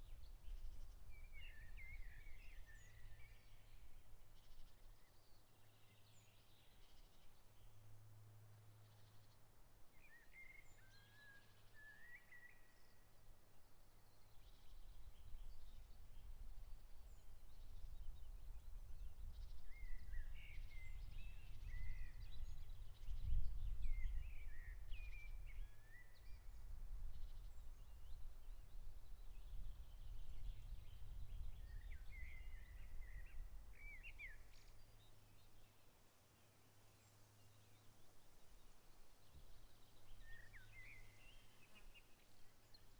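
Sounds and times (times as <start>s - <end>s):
songbirds twittering: 0.0s - 42.9s.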